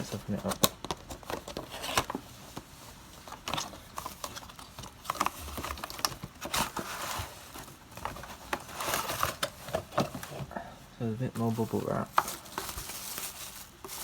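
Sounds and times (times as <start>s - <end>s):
cardboard box being opened: 0.0s - 10.6s, 11.4s - 14.0s
cardboard and bubble wrap rustling: 0.0s - 14.0s.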